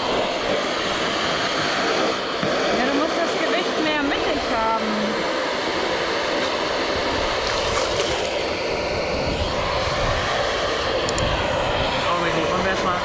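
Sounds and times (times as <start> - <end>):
orbital sander running: 0.0 - 13.0.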